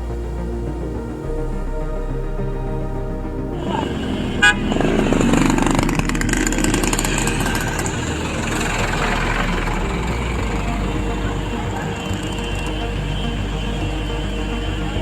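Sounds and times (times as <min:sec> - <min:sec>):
street and vehicle noise: 0:00.0 - 0:15.0.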